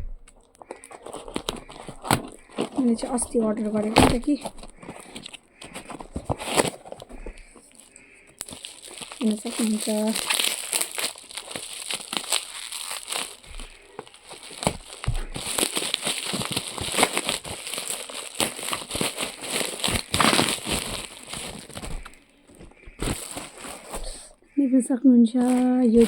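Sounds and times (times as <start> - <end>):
packaging crinkling: 0.0 - 24.4, 25.3 - 26.0.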